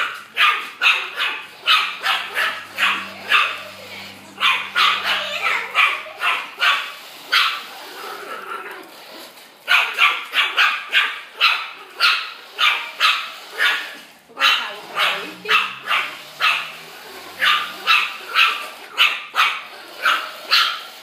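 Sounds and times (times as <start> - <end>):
puppy yapping: 0.0 - 7.7, 9.7 - 20.9.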